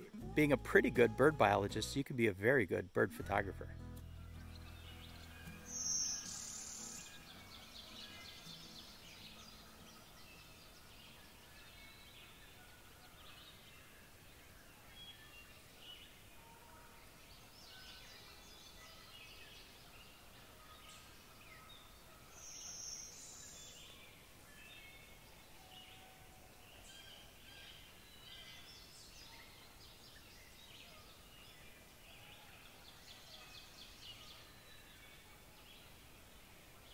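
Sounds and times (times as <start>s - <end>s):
high buzzy bird song: 0.0s - 36.9s
faint bird chirps: 4.3s - 36.9s.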